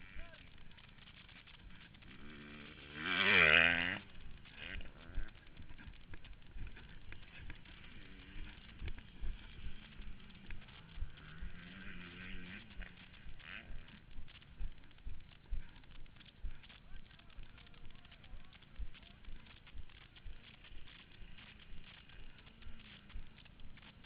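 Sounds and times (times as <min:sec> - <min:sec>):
faint engine droning: 0:00.0 - 0:24.0
motorbike engine revving: 0:00.0 - 0:24.0.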